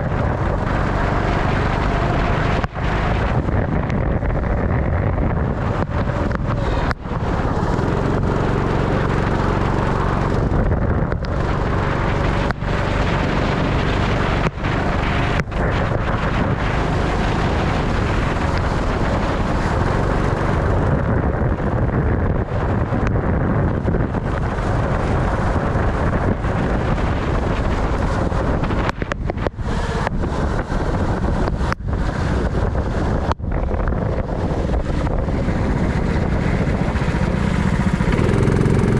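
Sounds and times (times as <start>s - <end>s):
kart engine running: 0.0s - 38.9s
wind noise on microphone: 0.0s - 38.9s.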